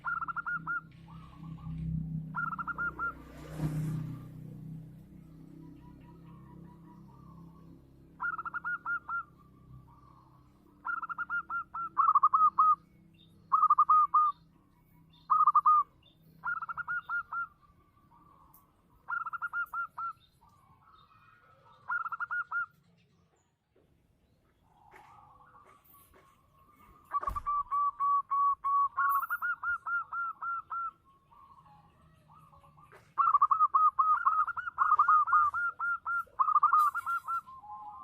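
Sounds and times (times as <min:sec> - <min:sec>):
dove cooing: 0:00.0 - 0:03.4, 0:05.8 - 0:12.8, 0:13.5 - 0:14.4, 0:15.3 - 0:17.6, 0:18.2 - 0:22.8, 0:24.9 - 0:38.0.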